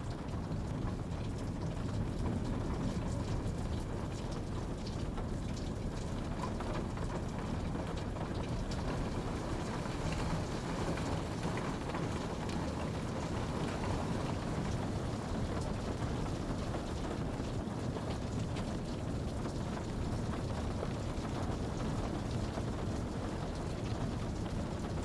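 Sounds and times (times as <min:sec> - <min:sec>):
raindrops pattering: 0:00.0 - 0:25.0
steady rainfall: 0:00.0 - 0:25.0.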